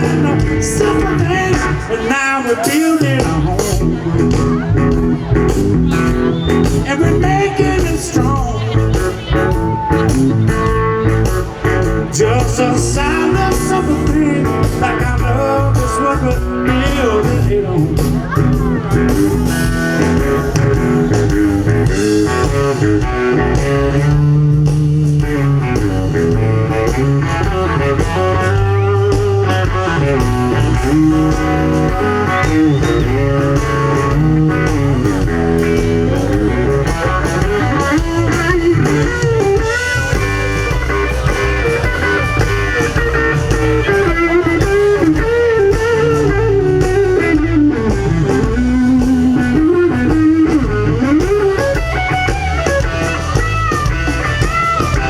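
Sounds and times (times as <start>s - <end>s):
bass guitar: 0.0s - 55.0s
electric guitar lead with bending notes: 0.0s - 55.0s.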